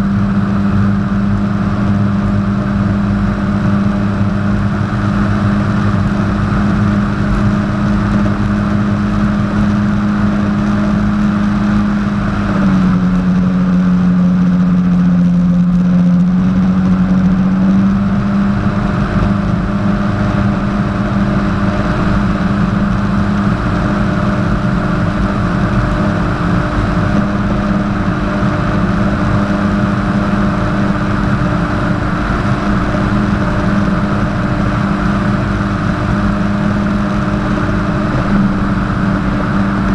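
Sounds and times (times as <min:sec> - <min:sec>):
jet ski engine: 0:00.0 - 0:39.9
water noise: 0:00.0 - 0:39.9.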